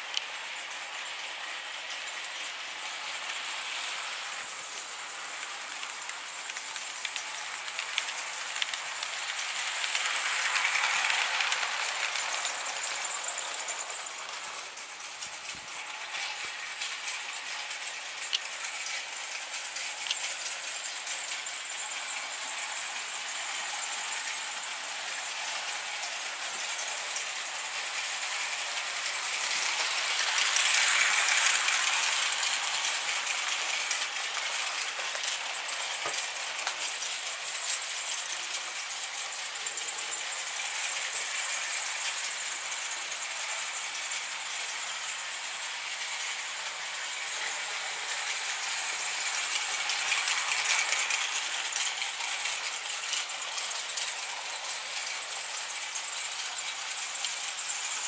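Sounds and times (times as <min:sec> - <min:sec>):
model steam locomotive passing: 0:00.0 - 0:58.0
model trains running on track: 0:00.0 - 0:58.0.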